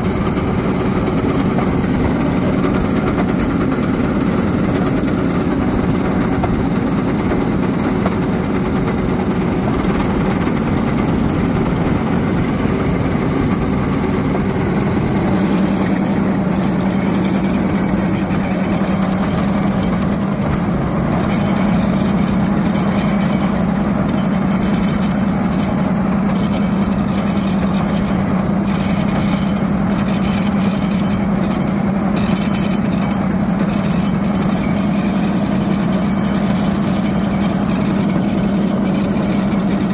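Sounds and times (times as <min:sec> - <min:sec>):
rail cart clattering on rails: 0:00.0 - 0:39.9.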